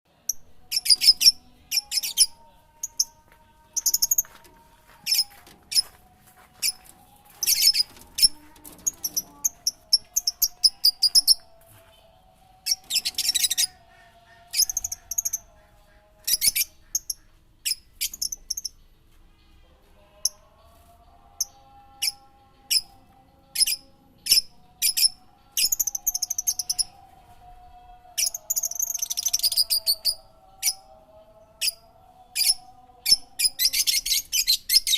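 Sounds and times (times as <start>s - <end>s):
songbird chirping: 0.1s - 34.9s.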